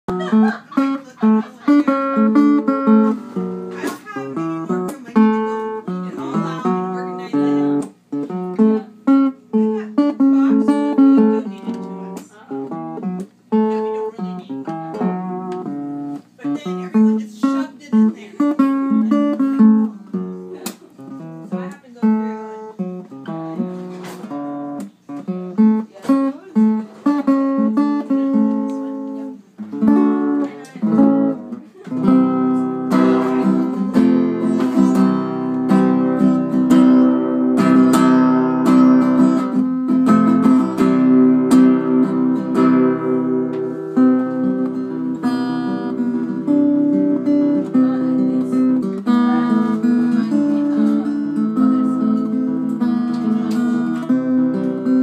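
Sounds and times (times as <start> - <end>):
guitar picked notes and strummed chords: 0.1 - 55.0.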